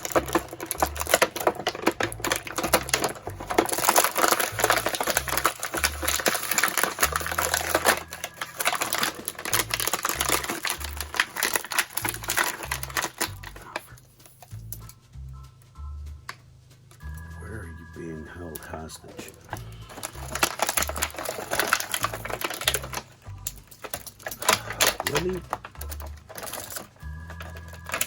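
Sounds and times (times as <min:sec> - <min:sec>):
plastic packaging crinkling and clicking: 0:00.0 - 0:15.0, 0:18.5 - 0:28.0.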